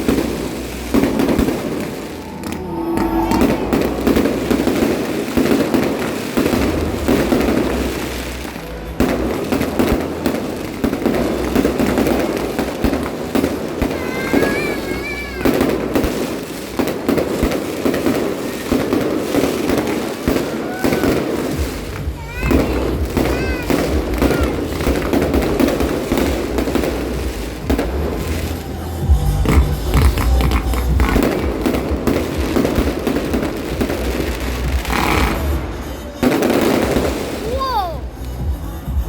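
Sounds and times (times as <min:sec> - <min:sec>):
fireworks and firecrackers banging: 0:00.0 - 0:39.0.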